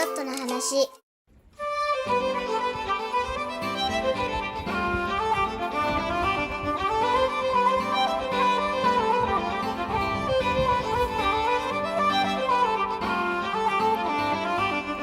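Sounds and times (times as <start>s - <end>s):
fiddle music: 1.6s - 15.0s.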